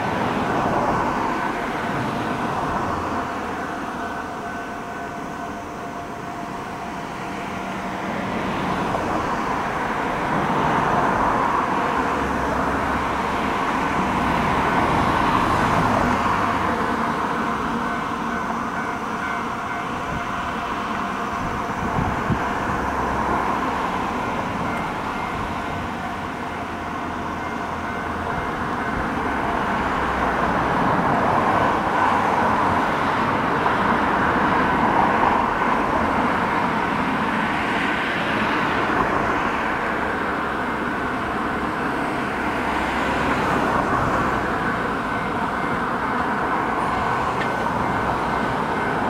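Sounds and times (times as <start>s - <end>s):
road traffic hum: 0.0s - 49.0s
train rolling: 0.0s - 49.0s.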